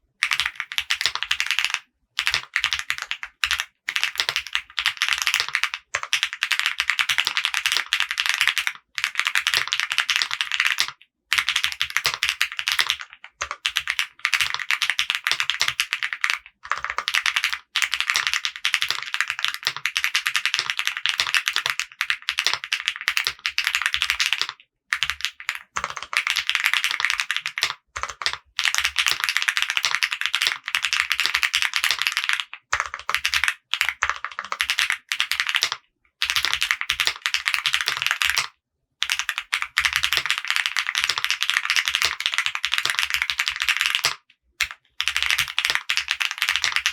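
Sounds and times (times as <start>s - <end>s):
mechanical keyboard typing: 0.2s - 46.9s.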